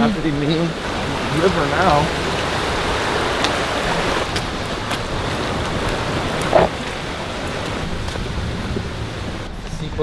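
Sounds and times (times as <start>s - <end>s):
waterfall and creek rushing: 0.0s - 9.5s.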